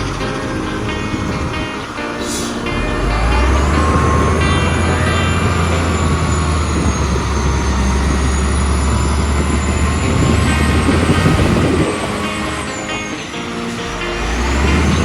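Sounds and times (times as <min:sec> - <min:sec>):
thin high whine: 0:00.0 - 0:15.0
truck engine hum: 0:00.0 - 0:15.0.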